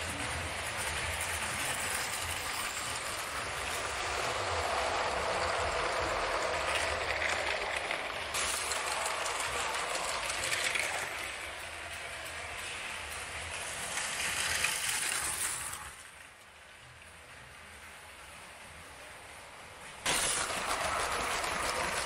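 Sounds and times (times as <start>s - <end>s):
toy train motors whirring: 0.0s - 16.7s, 20.0s - 22.0s.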